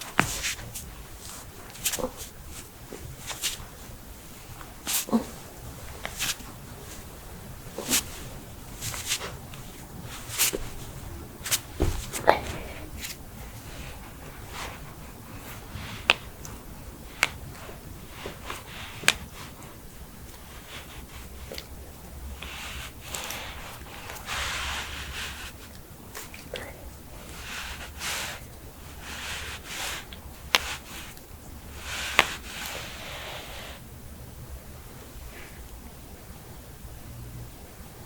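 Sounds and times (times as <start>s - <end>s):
rustling: 0.0s - 33.9s.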